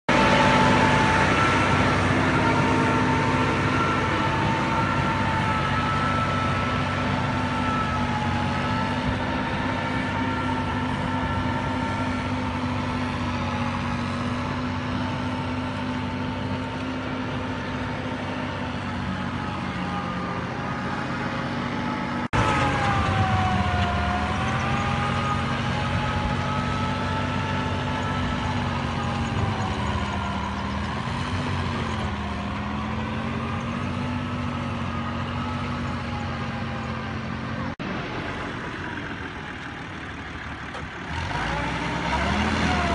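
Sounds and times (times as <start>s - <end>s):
engine running steadily: 0.0s - 42.9s.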